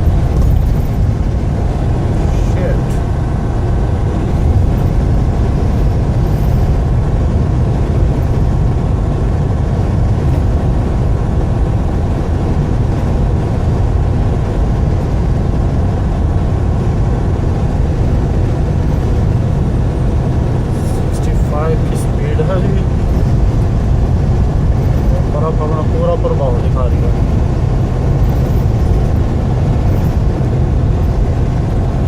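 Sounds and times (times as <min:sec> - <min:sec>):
vehicle driving rumble: 0:00.0 - 0:32.0.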